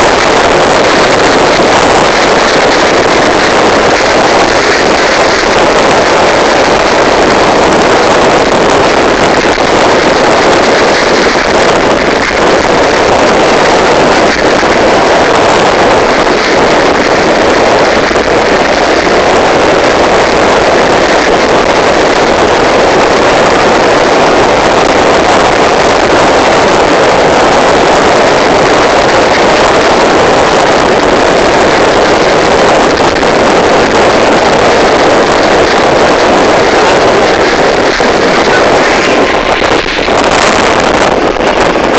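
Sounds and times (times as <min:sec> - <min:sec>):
car road and wind noise: 0:00.0 - 0:41.9.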